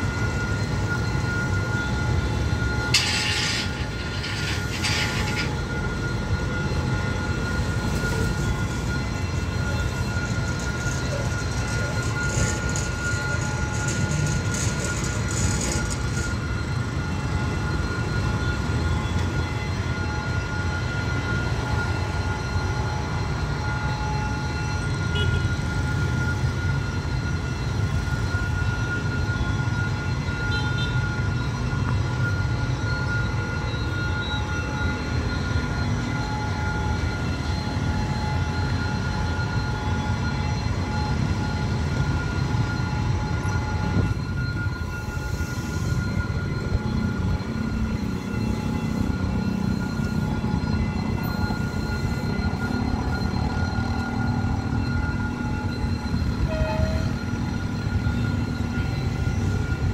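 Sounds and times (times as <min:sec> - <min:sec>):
locomotive engine rumbling: 0:00.0 - 0:25.1, 0:31.0 - 0:59.9.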